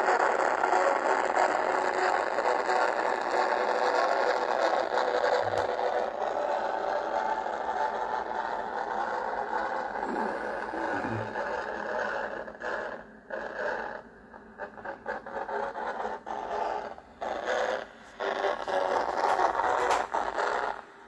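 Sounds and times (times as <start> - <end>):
noisy radio signal with music: 0.0 - 21.0.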